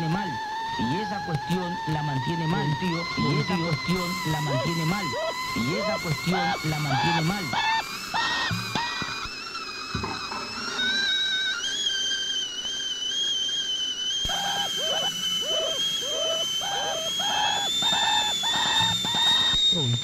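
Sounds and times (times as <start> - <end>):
high whistling tone: 0.0 - 20.0
short falling chirps: 0.0 - 20.0.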